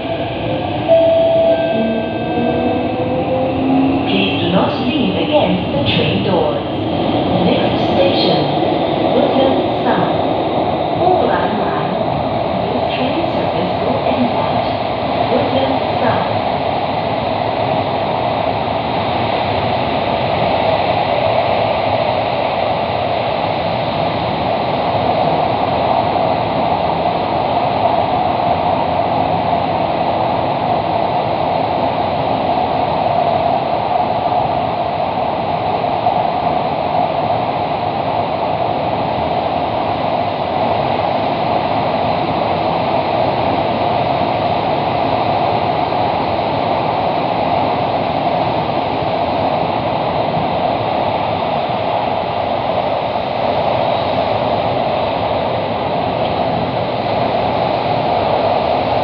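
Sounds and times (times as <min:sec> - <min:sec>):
train rushing through tunnel: 0:00.0 - 0:59.0.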